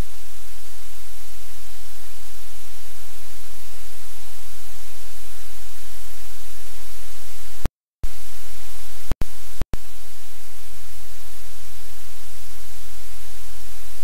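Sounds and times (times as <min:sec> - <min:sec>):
electronic static hiss: 0:00.0 - 0:14.0.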